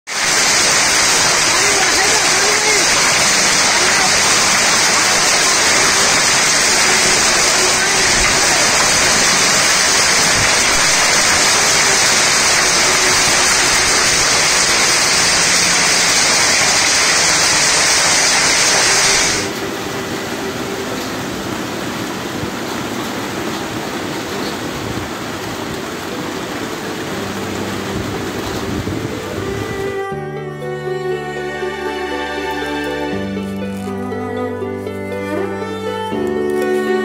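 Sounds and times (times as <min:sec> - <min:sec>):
heavy rain and hail: 0:00.1 - 0:30.1.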